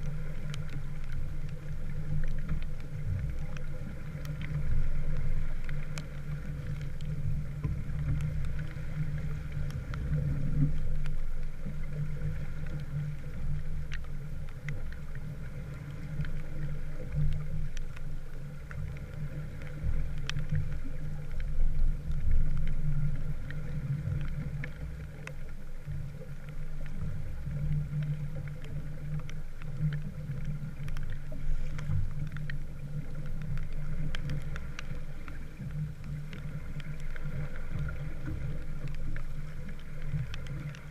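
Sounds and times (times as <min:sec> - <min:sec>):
light ticks: 0:00.0 - 0:40.9
water rushing: 0:00.0 - 0:40.9.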